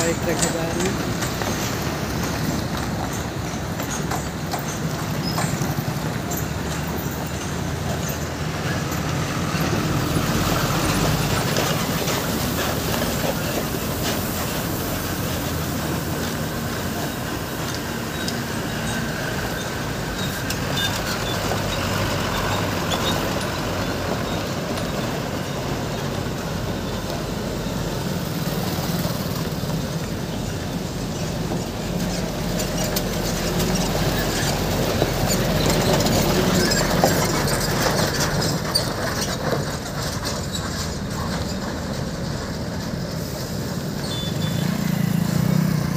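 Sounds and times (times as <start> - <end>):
road noise: 0.0 - 45.9
truck engine running: 0.0 - 45.9.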